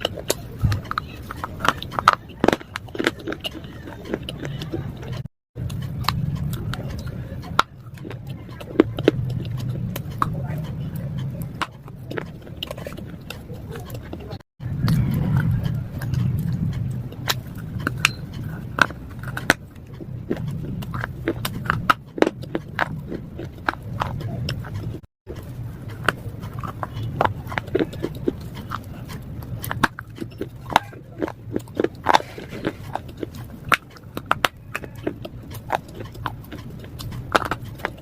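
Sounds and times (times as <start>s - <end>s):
slate pencils being chewed: 0.0s - 38.0s
steady low hum: 0.0s - 38.0s.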